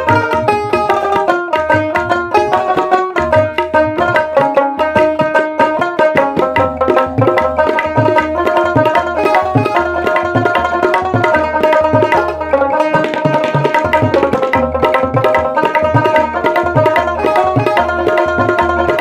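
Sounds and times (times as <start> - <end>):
instrumental music melody: 0.0 - 19.0
steady drum beat: 0.0 - 19.0.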